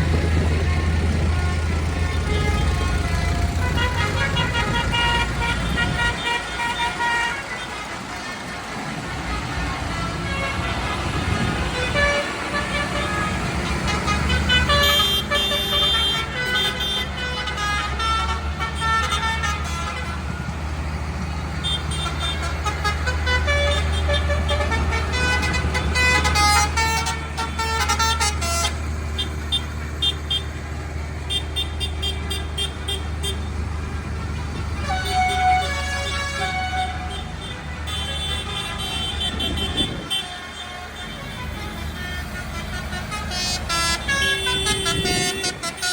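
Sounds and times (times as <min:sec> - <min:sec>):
horns tooting: 0:00.0 - 0:45.9
tractor engines droning: 0:00.0 - 0:45.9.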